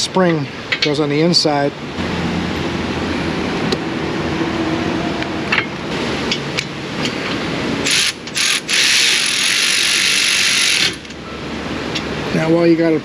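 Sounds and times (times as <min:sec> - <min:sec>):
shop background hum: 0:00.0 - 0:13.0.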